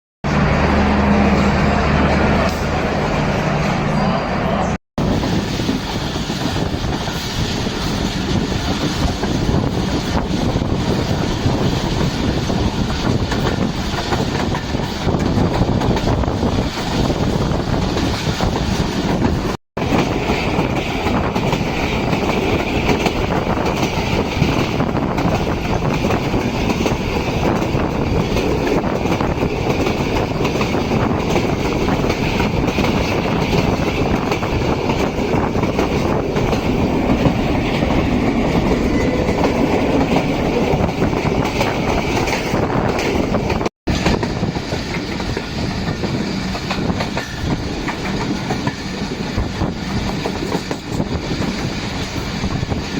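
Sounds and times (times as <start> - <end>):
train wheels rumbling on rails: 0.2 - 52.9
clickety-clack of rail joints: 2.4 - 2.8, 5.1 - 52.9.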